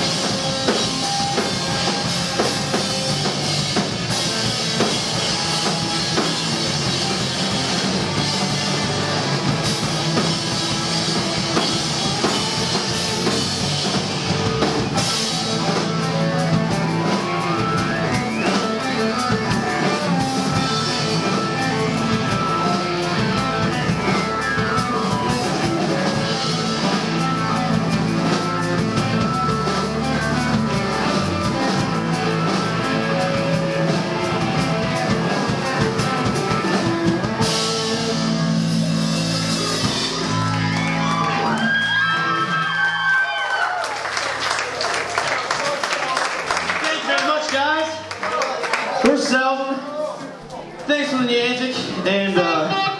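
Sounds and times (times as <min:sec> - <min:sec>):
electric guitars: 0:00.0 - 0:45.2, 0:51.6 - 0:52.9
drum kit: 0:00.0 - 0:48.3.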